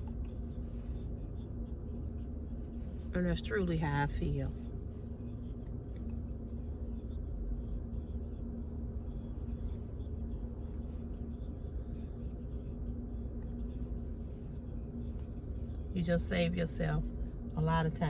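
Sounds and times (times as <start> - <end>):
car rumble inside cabin: 0.0 - 18.0
constant hum: 0.0 - 18.0.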